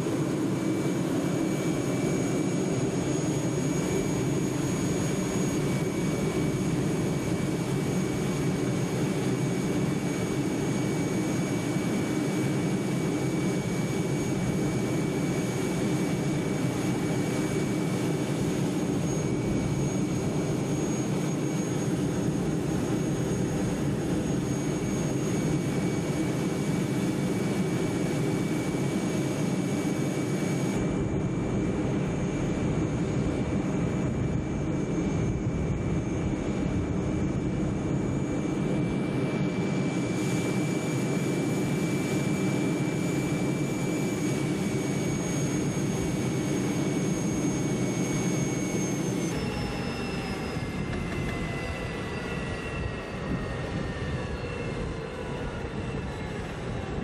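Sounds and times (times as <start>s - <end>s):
thin high whine: 0.0s - 56.9s.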